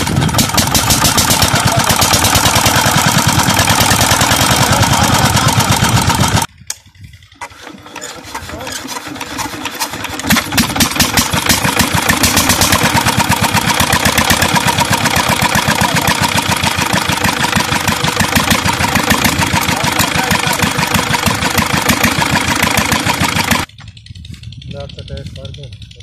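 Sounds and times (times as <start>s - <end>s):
diesel engine chugging: 0.0s - 26.0s.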